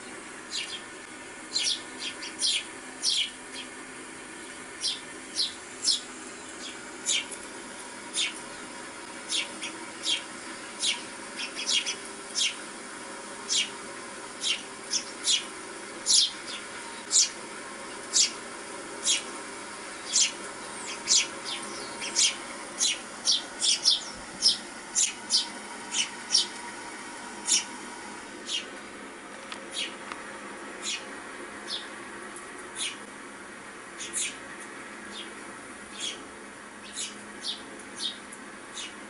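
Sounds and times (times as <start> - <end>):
songbirds chirping on television: 0.0 - 39.0.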